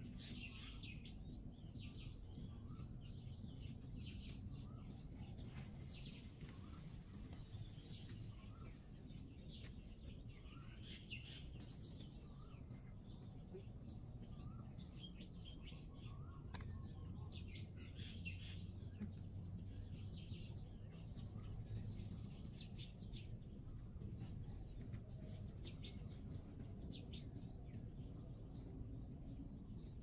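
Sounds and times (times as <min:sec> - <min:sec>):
birds chirping: 0:00.0 - 0:29.0
low background hum: 0:00.0 - 0:30.0.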